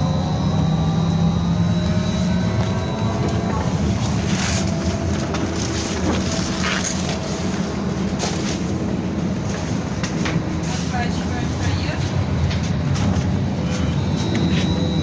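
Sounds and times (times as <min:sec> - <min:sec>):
trolleybus hum and road noise: 0:00.0 - 0:15.0.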